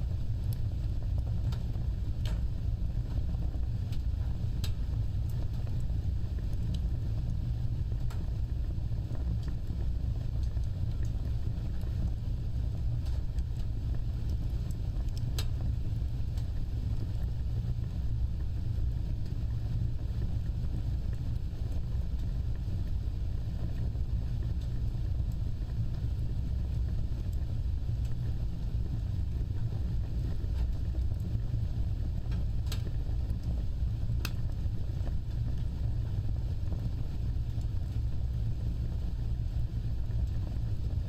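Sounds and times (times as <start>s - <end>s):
fire flames rumbling: 0.0s - 41.0s.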